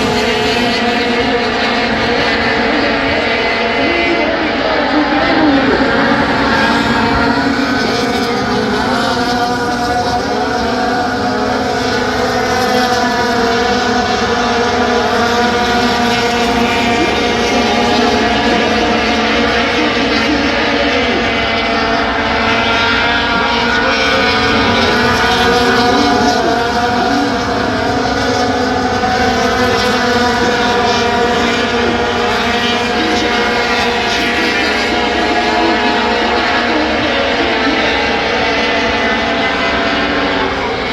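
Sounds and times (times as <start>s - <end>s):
race truck engines: 0.0s - 40.9s.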